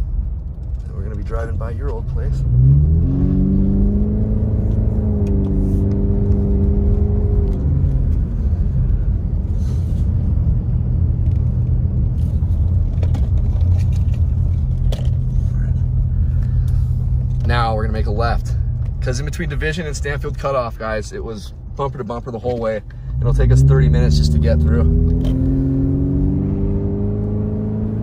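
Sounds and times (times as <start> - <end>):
car engine from inside cabin: 0.0 - 28.0.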